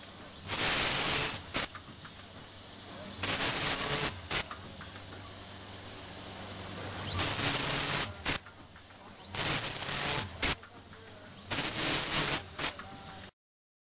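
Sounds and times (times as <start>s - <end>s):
machine running hum: 0.0s - 13.3s
packaging machine hiss: 0.0s - 13.3s.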